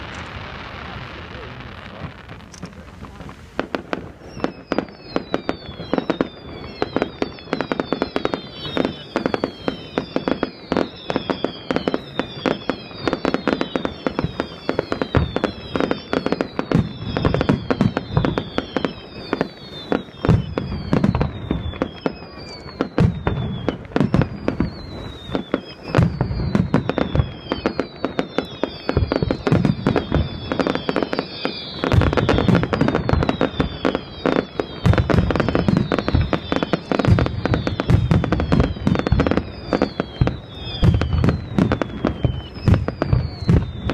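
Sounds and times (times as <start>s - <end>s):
firework bangs and crackling: 0.0s - 43.9s
firework whistles: 0.0s - 43.9s
heavy firework booms: 0.0s - 43.9s.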